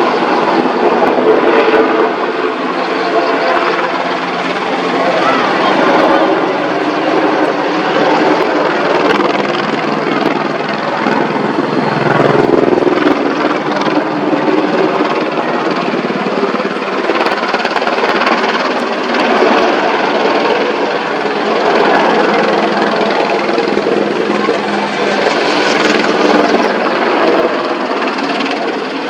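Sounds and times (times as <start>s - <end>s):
helicopter flying close by: 0.0s - 29.0s.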